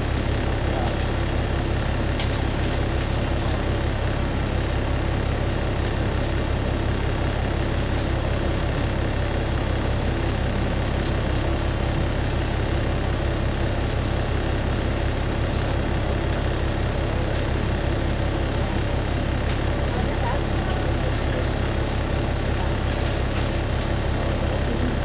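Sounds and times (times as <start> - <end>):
diesel railcar engine idling: 0.0 - 25.0.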